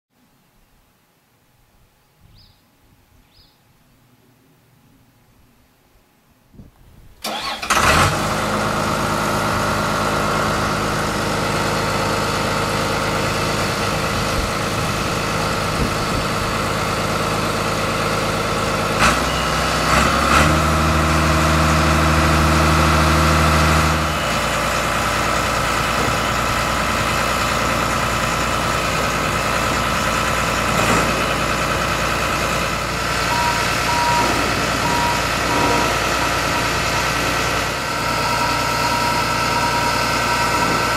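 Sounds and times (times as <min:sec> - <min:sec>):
bulldozer diesel engine running: 0:07.2 - 0:40.9.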